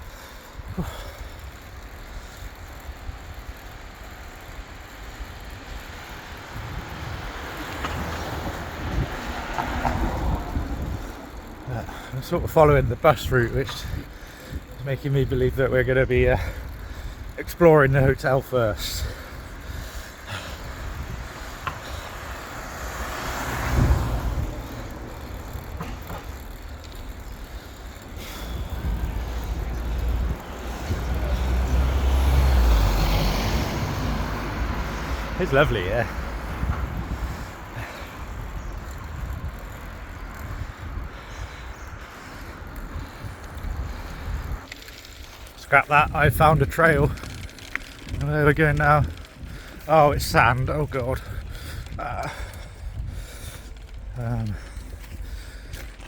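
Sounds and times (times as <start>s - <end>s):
bicycle road noise: 0.0s - 56.0s
wind rumble on microphone: 5.2s - 17.4s, 18.0s - 56.0s.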